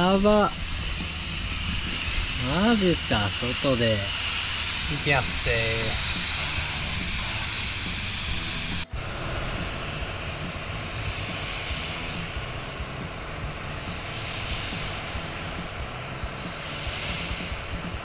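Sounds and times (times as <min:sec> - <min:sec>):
spray paint hiss: 0:00.0 - 0:18.0.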